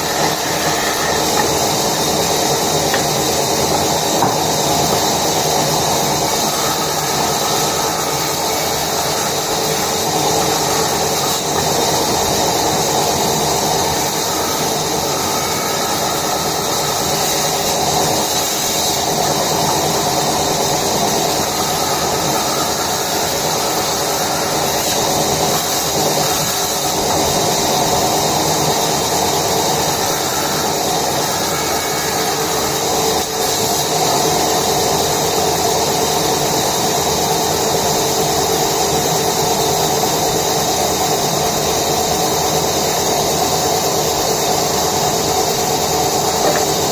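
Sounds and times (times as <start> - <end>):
woodworking machinery running: 0.0 - 46.9.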